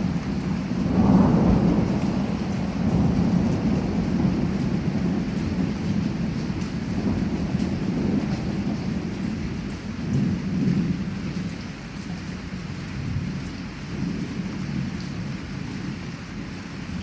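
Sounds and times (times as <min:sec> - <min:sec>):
heavy rain falling: 0:00.0 - 0:17.0
rolling thunder rumble: 0:00.0 - 0:17.0.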